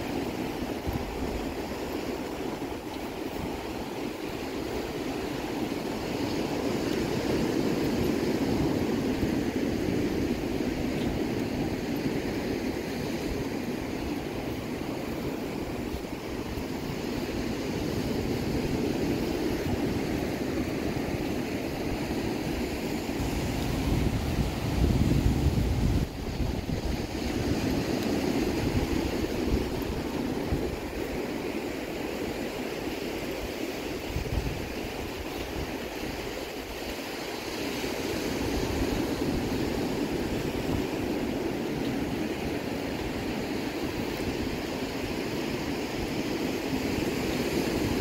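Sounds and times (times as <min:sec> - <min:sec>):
surf washing onto beach: 0:00.0 - 0:48.0
wind rumbling on microphone: 0:00.0 - 0:48.0.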